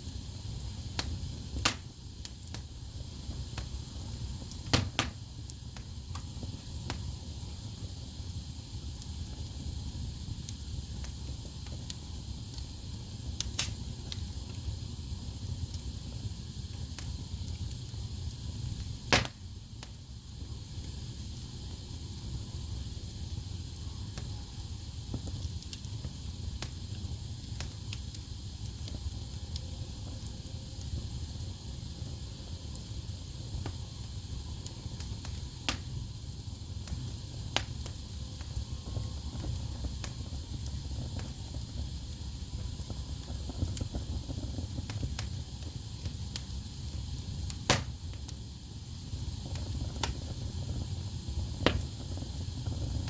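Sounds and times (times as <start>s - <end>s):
low rumble of flames: 0.0s - 53.0s
wood fire crackles and pops: 0.0s - 53.0s.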